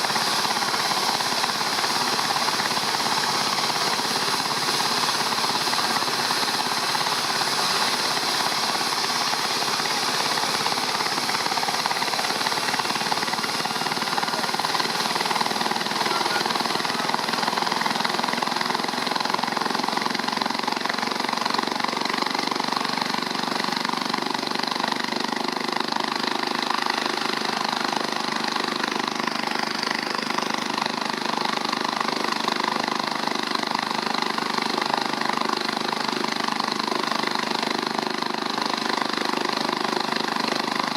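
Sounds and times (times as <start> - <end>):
helicopter turbine whine and rotor chop: 0.0 - 40.9.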